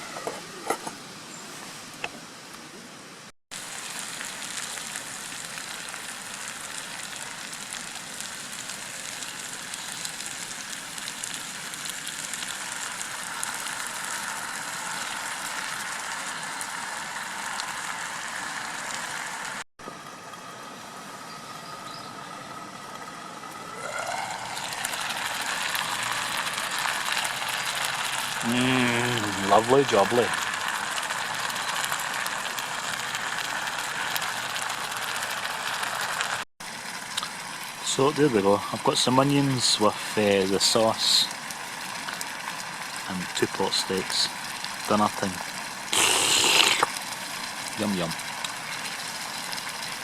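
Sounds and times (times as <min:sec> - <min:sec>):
meat and onions sizzling in pan: 0:03.5 - 0:19.6, 0:23.2 - 0:50.0.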